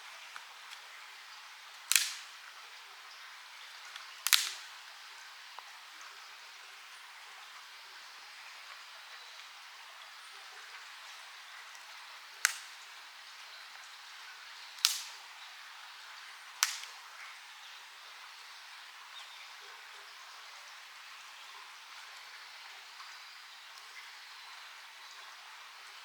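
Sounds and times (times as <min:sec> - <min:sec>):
soft hiss: 0:00.0 - 0:26.0.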